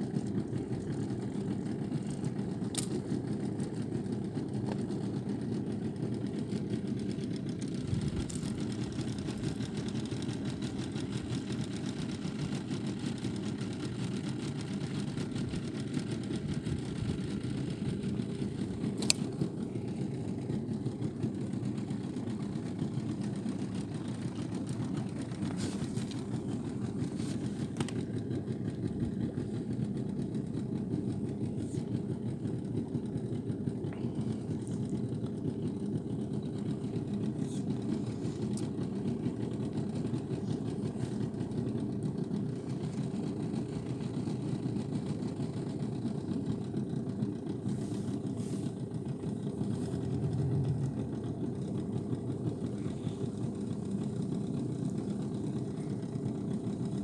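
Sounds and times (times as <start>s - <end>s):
small boat motor running: 0.0s - 57.0s.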